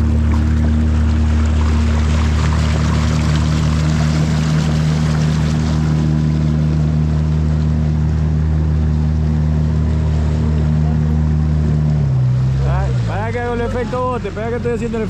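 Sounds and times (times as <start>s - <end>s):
boat engine humming: 0.0s - 15.0s
water splashing along hull: 0.0s - 15.0s.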